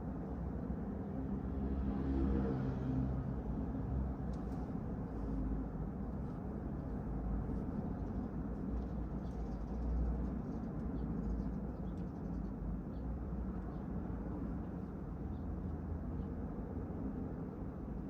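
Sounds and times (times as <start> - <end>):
rumble of vehicles: 0.0 - 18.0.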